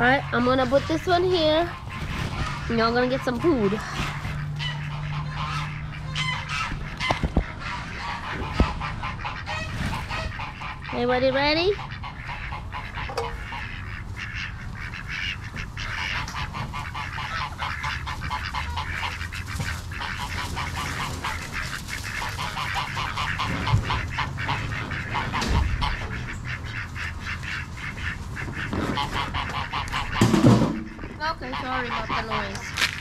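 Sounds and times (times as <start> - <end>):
ducks quacking: 0.0 - 33.0.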